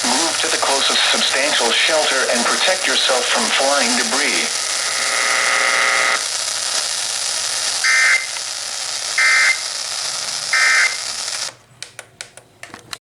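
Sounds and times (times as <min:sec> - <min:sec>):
radio hiss: 0:00.0 - 0:11.6.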